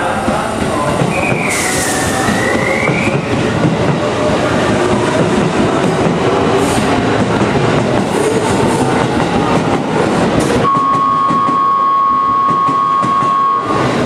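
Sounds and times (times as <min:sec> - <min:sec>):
train wheel clatter: 0:00.2 - 0:11.6.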